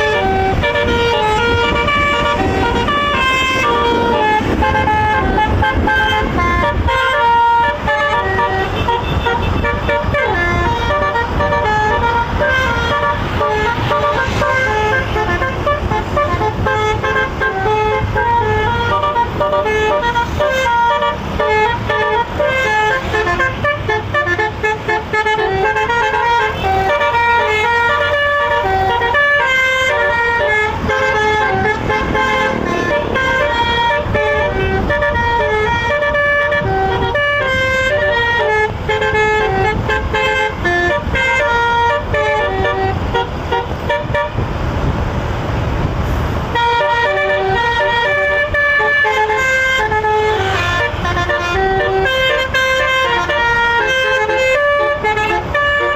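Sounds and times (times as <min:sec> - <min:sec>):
low engine noise: 0:00.0 - 0:55.9
musical bus horn tune: 0:00.0 - 0:55.9.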